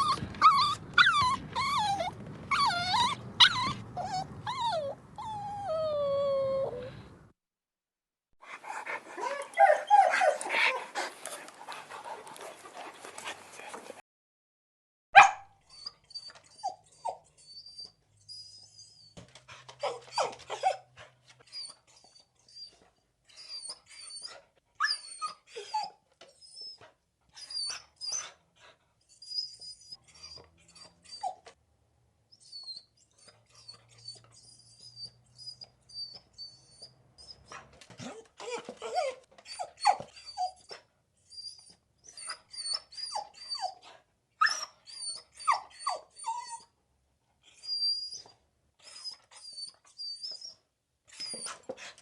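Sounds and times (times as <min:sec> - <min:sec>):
dogs whining and whimpering: 0:00.0 - 0:07.2, 0:09.1 - 0:11.1, 0:15.6 - 0:31.6, 0:32.3 - 0:46.8, 0:47.4 - 0:52.0.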